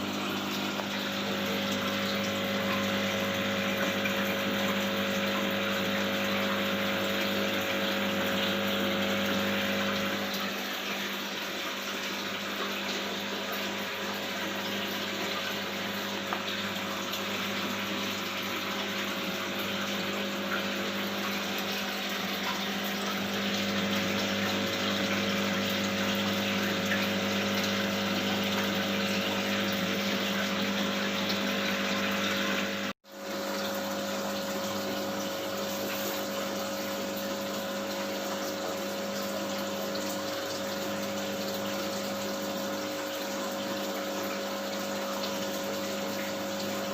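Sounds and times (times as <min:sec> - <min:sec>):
aquarium water pump running: 0:00.0 - 0:46.9.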